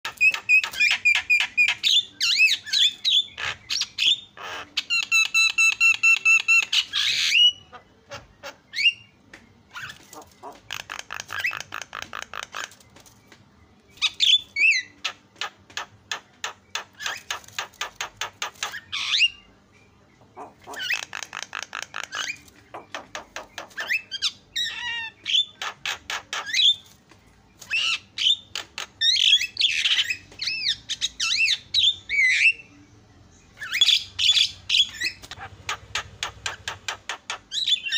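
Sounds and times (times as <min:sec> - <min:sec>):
bird singing with squawks and rattles: 0:00.0 - 0:37.9.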